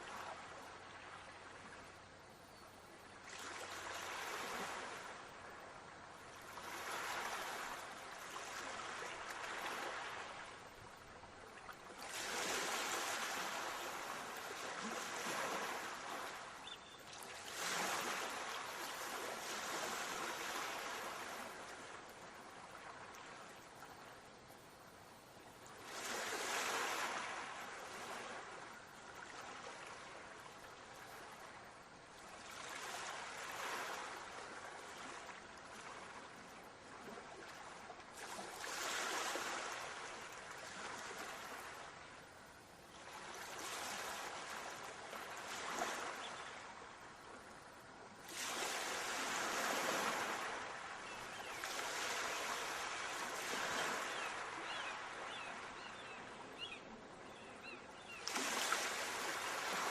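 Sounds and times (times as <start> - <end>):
sea waves breaking on shore: 3.2 - 24.1, 25.7 - 59.9.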